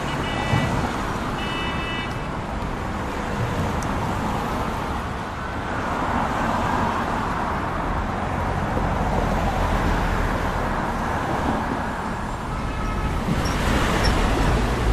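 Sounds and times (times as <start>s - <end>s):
passing cars and engines: 0.0s - 14.9s.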